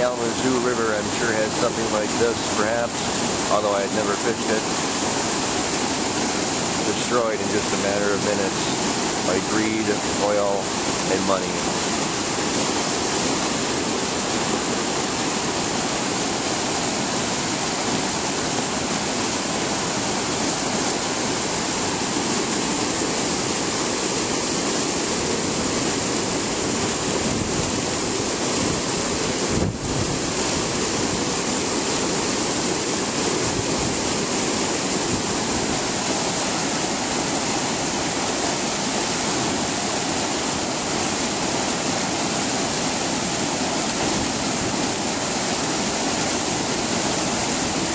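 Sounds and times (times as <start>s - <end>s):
water rushing over a weir: 0.0s - 47.9s.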